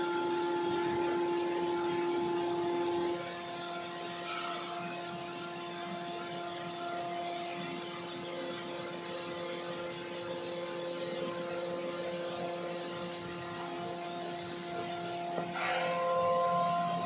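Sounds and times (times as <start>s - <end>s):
air compressor humming: 0.0s - 17.0s.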